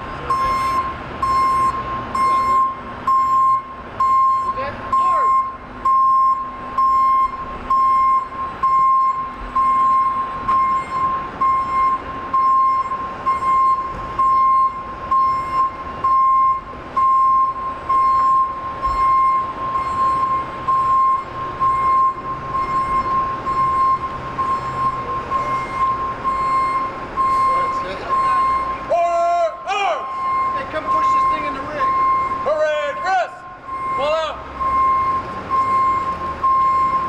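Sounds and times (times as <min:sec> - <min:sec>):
reversing alarm beeping: 0:00.0 - 0:37.0.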